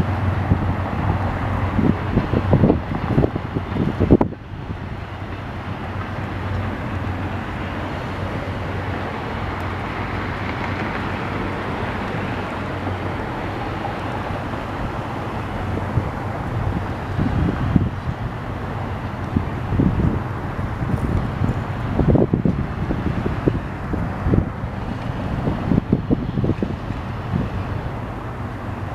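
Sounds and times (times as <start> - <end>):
passenger train rumbling: 0.0 - 28.9
wind buffeting microphone: 0.0 - 28.9.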